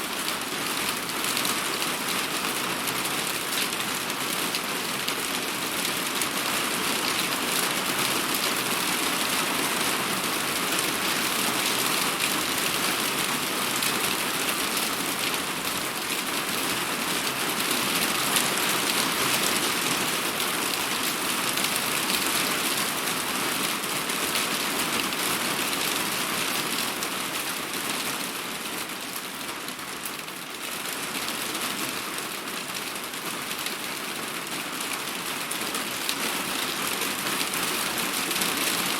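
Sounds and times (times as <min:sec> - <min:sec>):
heavy rain falling: 0:00.1 - 0:38.9.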